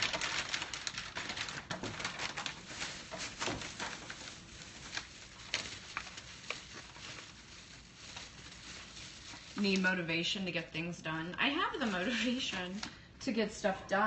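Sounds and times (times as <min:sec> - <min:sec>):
plastic bag crinkling: 0:00.0 - 0:10.8, 0:11.4 - 0:13.0.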